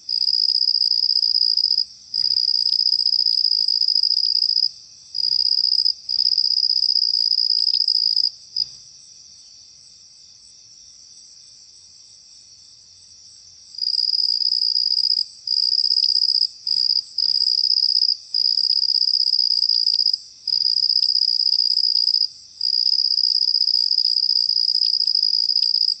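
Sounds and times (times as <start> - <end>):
cricket trilling: 0.1 - 9.6, 13.7 - 26.0.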